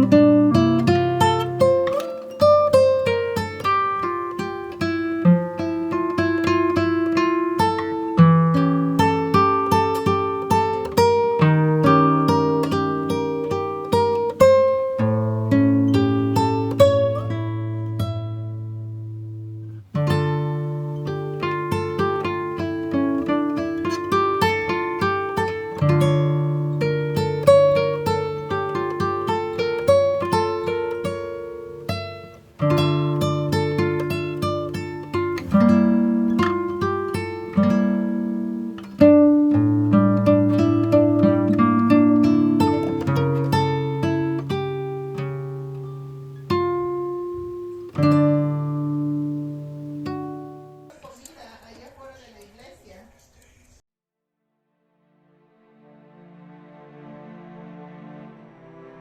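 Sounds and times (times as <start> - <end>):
acoustic guitar picking: 0.0 - 50.9.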